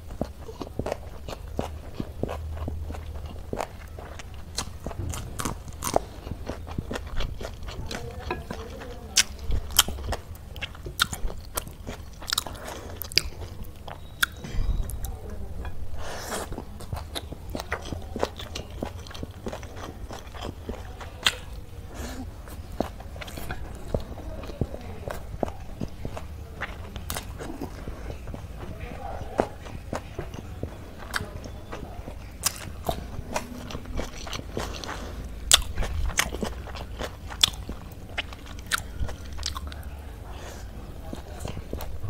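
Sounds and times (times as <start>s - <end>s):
chewing and crunching: 0.0s - 42.0s.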